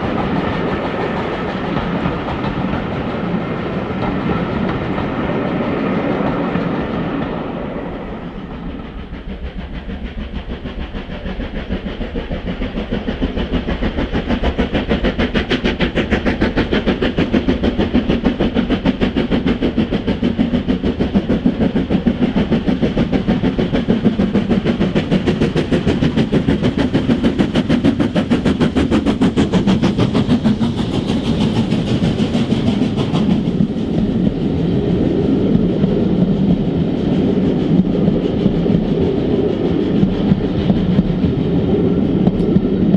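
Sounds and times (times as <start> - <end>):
steam train running past: 0.0 - 42.9.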